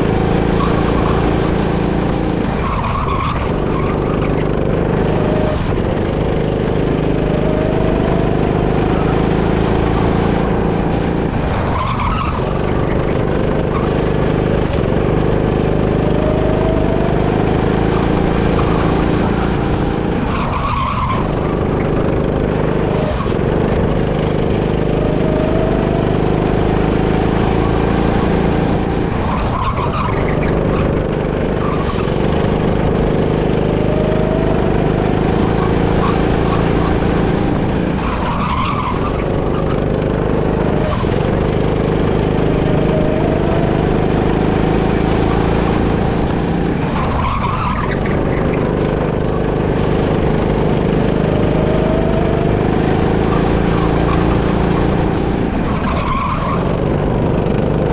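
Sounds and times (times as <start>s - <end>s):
go-kart engine revving: 0.0s - 57.9s.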